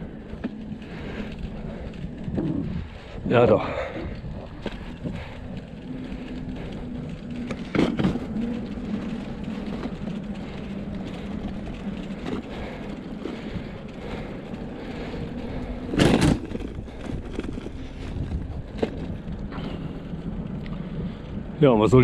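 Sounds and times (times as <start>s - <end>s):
bicycle tyres rolling on planks: 0.0s - 22.0s.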